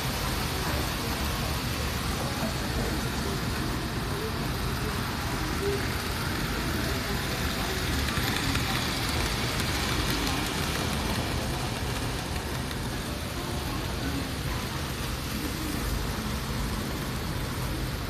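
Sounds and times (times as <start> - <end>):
model train wheels rolling on rail: 0.0 - 18.0
room noise: 0.0 - 18.0.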